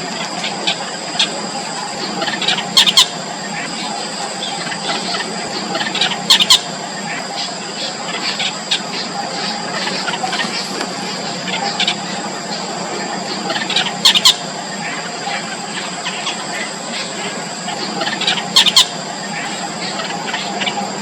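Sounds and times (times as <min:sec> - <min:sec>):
nestlings begging calls: 0:00.0 - 0:21.0.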